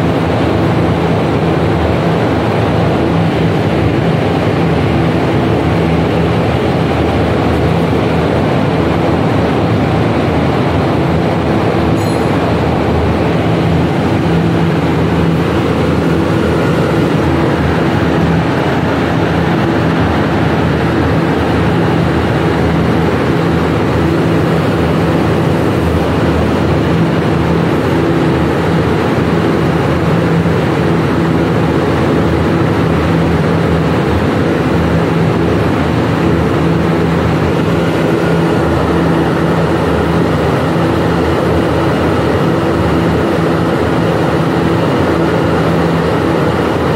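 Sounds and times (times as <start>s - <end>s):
constant low hum: 0.0s - 46.9s
rushing air and machinery drone: 0.0s - 46.9s.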